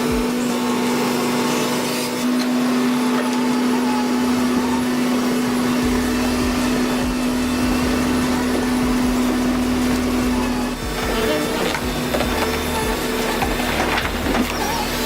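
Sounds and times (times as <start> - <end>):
chainsaw engine running: 0.0 - 15.0.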